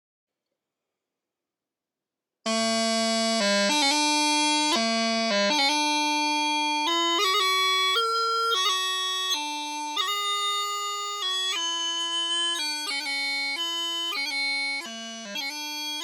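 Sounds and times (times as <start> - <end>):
bagpipe chanter march melody: 2.5 - 16.0.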